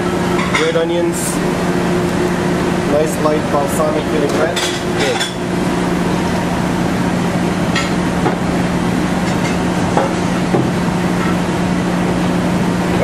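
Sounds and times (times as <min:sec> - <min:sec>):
kitchen machinery droning hum: 0:00.0 - 0:13.0.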